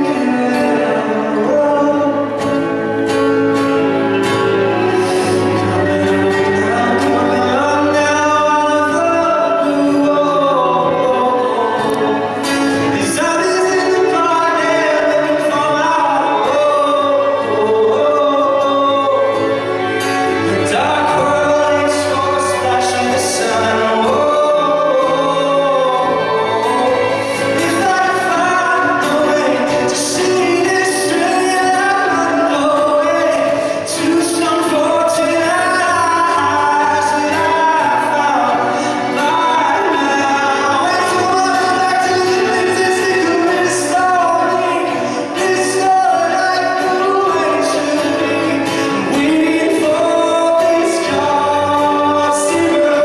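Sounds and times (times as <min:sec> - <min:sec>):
acoustic guitar: 0:00.0 - 0:53.0
man singing pop song: 0:00.0 - 0:53.0.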